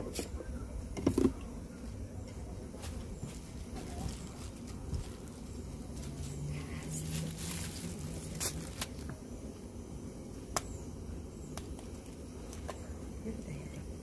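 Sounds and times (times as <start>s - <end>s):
low steady background: 0.0s - 14.0s.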